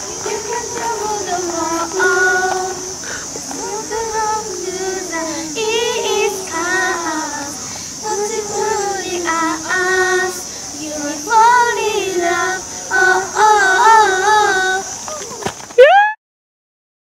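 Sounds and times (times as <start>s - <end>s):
children singing: 0.0s - 15.1s.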